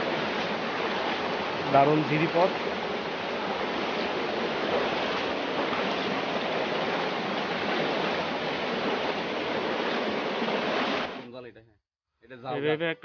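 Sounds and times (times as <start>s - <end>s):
water rushing over rocks: 0.0s - 11.2s.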